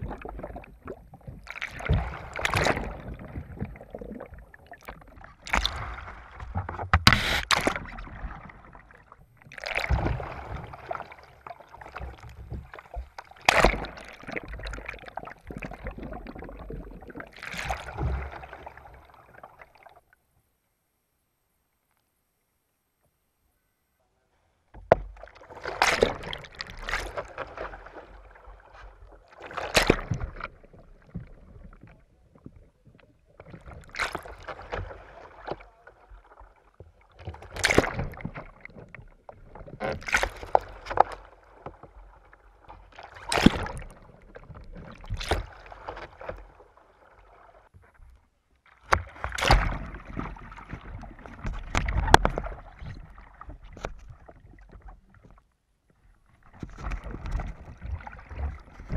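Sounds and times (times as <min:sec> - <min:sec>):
water splashing and churning: 0:00.0 - 0:20.0, 0:24.9 - 0:47.8, 0:48.7 - 0:55.5, 0:56.4 - 0:58.9.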